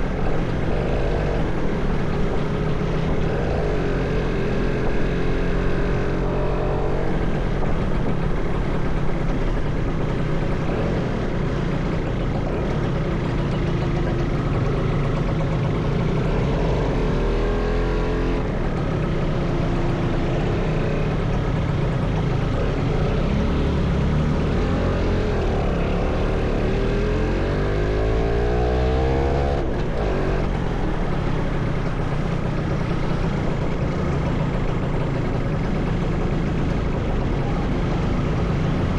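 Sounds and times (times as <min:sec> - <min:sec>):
motorcycle engine accelerating: 0:00.0 - 0:38.9
road and wind noise: 0:00.0 - 0:38.9.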